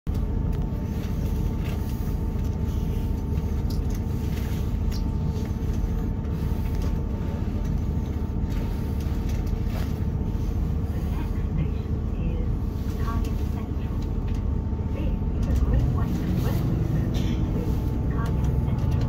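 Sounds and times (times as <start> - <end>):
train diesel engine idling: 0.1 - 19.0.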